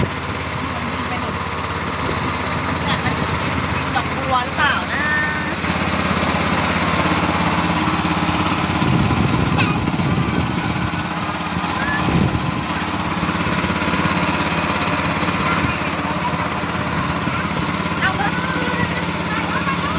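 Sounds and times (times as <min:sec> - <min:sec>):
motorboat engine running: 0:00.0 - 0:19.9.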